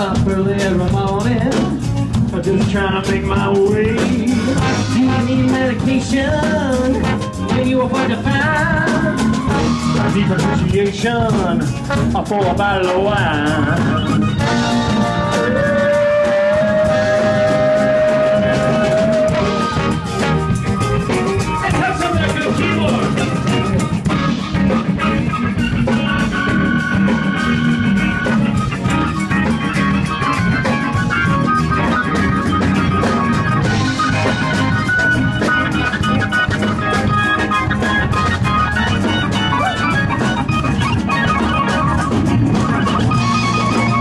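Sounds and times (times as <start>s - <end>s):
live soul band with horns: 0.0s - 44.0s.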